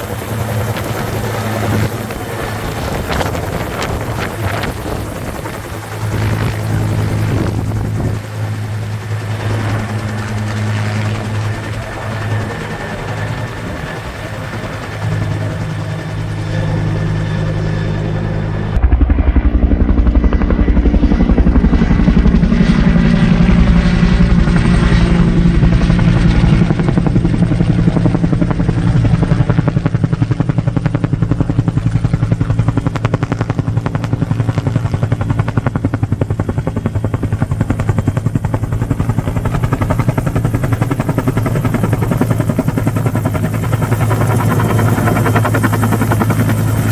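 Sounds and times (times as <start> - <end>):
helicopter engine hum: 0.0 - 46.9
helicopter rotor blade beat: 0.0 - 46.9.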